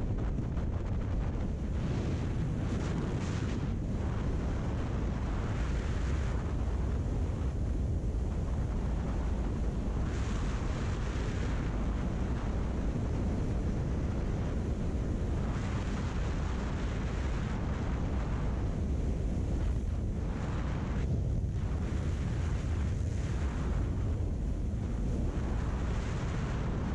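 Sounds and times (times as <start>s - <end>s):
motorcycle and road rumble: 0.0s - 26.9s
wind buffeting microphone: 0.0s - 26.9s.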